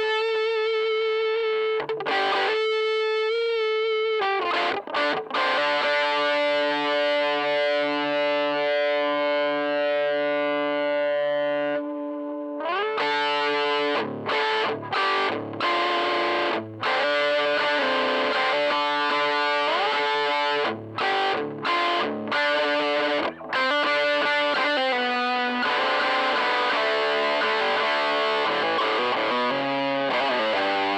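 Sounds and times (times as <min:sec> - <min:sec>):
distorted electric guitar chords: 0:00.0 - 0:30.9.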